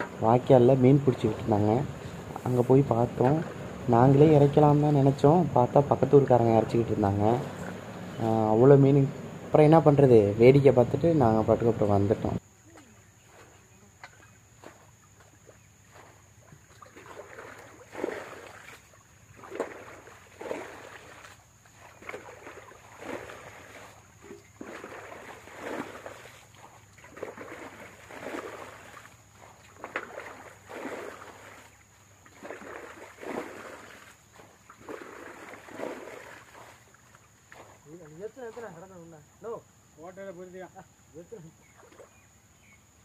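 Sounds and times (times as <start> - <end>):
water splashing and sloshing: 0.0 - 39.1, 41.6 - 42.4
high insect drone: 0.0 - 43.0.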